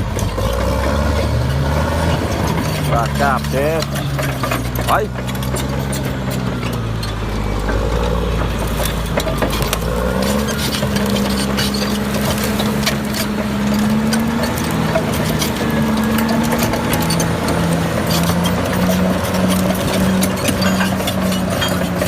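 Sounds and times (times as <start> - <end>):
electric motors whining: 0.0 - 22.0
loose stones crunching: 0.0 - 22.0.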